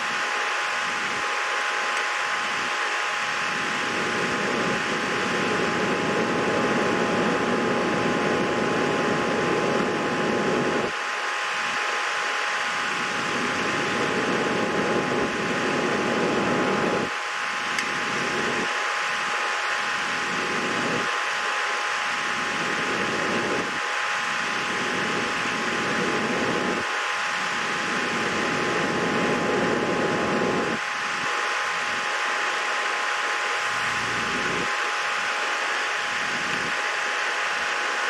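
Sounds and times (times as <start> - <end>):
faint steady whine: 0.0 - 38.0
fan or motor whirring: 0.0 - 38.0.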